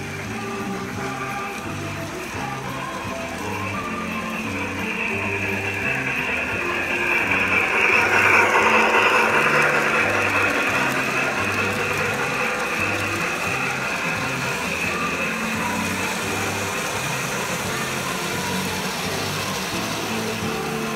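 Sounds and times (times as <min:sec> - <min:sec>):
model train whirring and clattering: 0:00.0 - 0:20.9.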